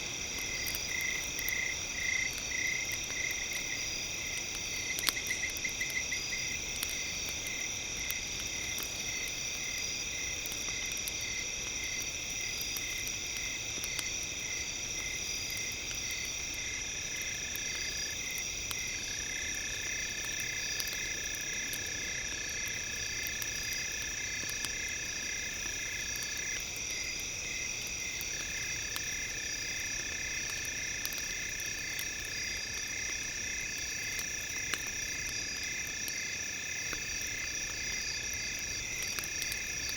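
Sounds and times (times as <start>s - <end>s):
campfire crackle: 0.0s - 39.9s.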